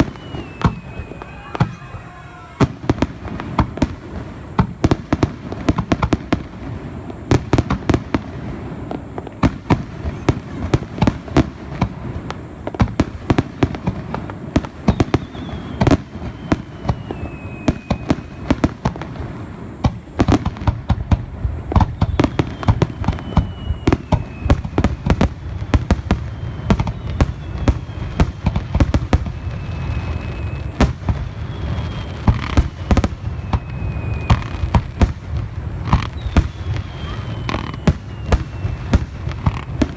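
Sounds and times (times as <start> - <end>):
fireworks bangs and crackles: 0.0 - 39.9
fireworks whistles falling: 0.0 - 39.9.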